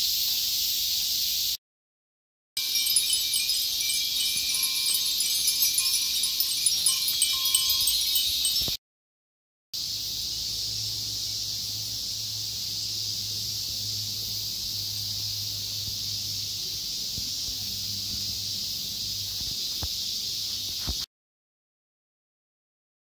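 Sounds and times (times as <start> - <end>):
cicadas droning: 0.0 - 1.6, 2.6 - 8.8, 9.8 - 21.1.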